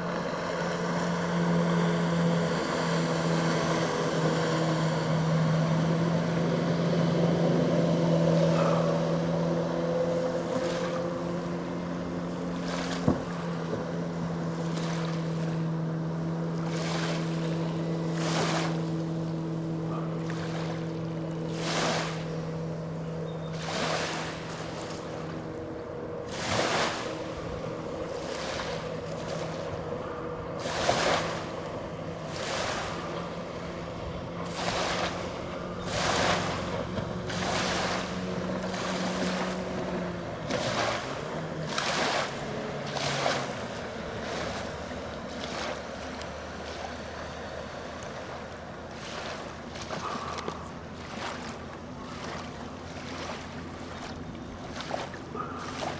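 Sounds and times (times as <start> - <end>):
distant outboard motor running: 0.0 - 55.9
small waves splashing on shore: 0.0 - 55.9.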